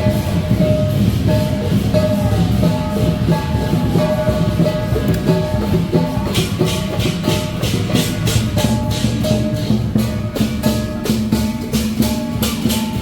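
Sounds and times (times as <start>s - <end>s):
music with cymbal beat: 0.0s - 13.0s.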